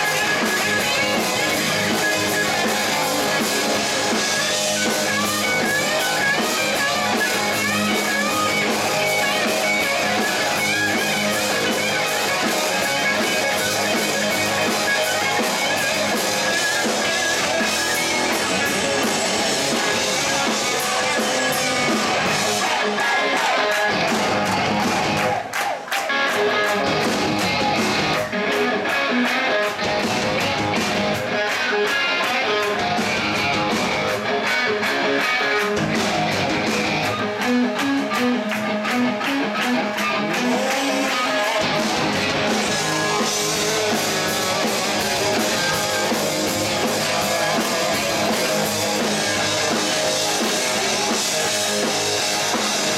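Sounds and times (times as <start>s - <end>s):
distorted electric guitars: 0.0s - 52.9s
drum kit: 0.0s - 52.9s.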